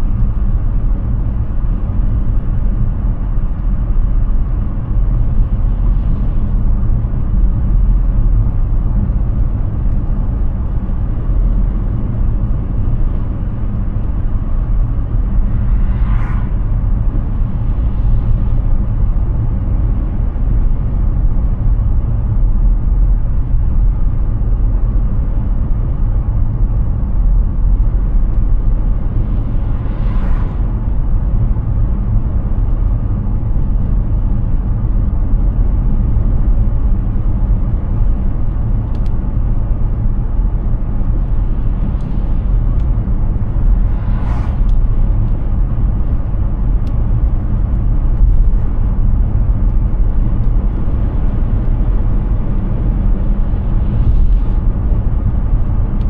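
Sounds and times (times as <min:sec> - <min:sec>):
road rumble and tyre noise: 0:00.0 - 0:56.0.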